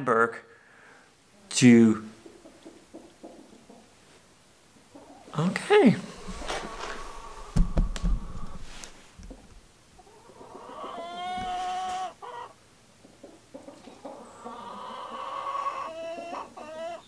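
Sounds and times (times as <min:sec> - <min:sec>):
chickens calling: 0:02.1 - 0:17.0.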